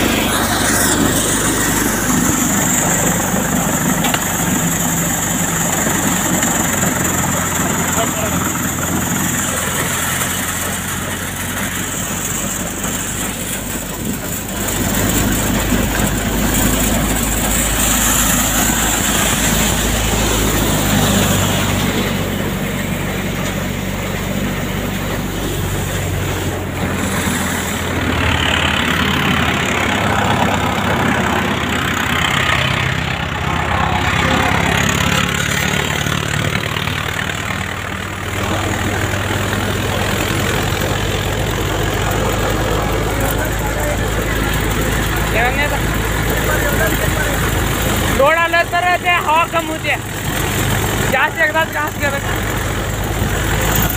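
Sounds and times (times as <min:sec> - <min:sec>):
grain blower: 0:00.0 - 0:53.9
rushing threshing noise: 0:00.0 - 0:53.9
thresher engine hum: 0:00.0 - 0:53.9.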